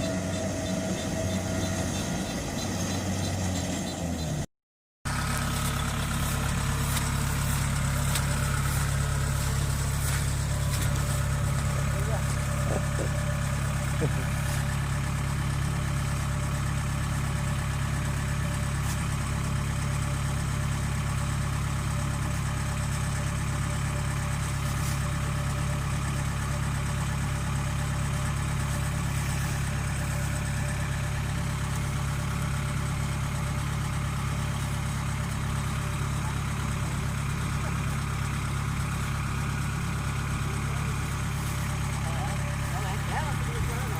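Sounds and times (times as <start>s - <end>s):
diesel engine droning: 0.0s - 4.5s, 5.1s - 43.9s.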